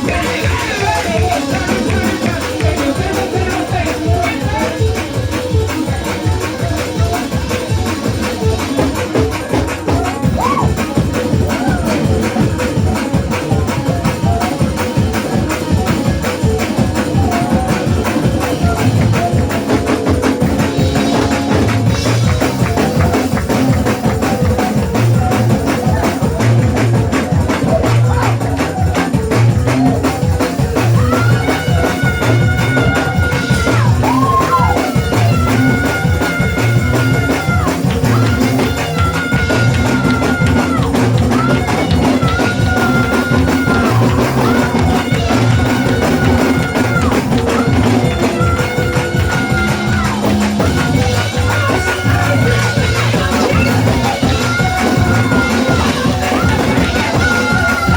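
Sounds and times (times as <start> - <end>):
drums: 0.0 - 57.9
live church praise music: 0.0 - 57.9
repeating bass line: 0.0 - 57.9
tambourine: 0.0 - 57.9.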